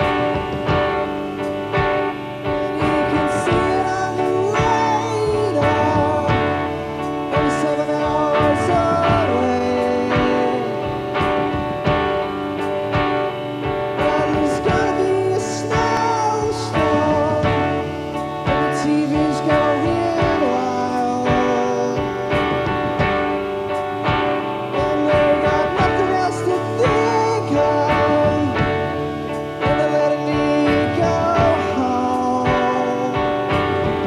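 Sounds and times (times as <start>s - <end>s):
drums and cymbals: 0.0s - 34.0s
electric guitar: 0.0s - 34.0s
man singing: 2.5s - 11.3s, 13.9s - 23.0s, 24.6s - 34.0s.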